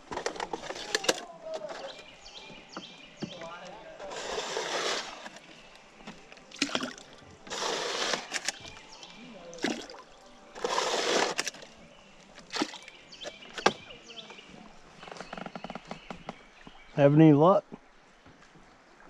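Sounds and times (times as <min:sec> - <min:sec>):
water swishing around a canoe: 0:00.0 - 0:17.0.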